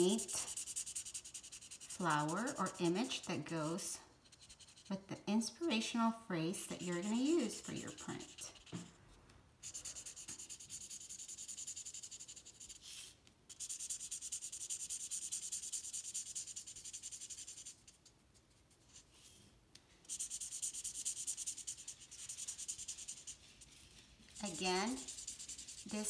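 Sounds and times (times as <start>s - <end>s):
marker scratching on paper: 0.0s - 5.2s, 6.5s - 9.0s, 9.6s - 19.2s, 20.0s - 26.0s.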